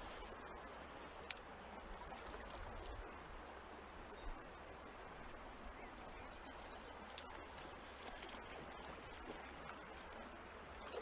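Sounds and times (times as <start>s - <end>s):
stream running over stones: 0.0s - 11.0s.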